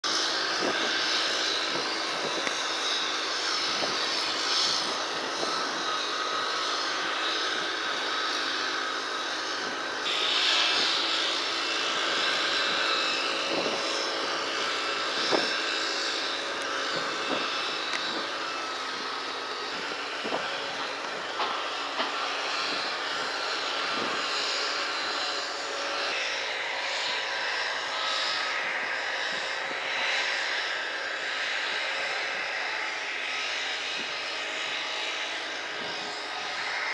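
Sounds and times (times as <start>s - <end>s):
machinery drone: 0.0s - 36.9s.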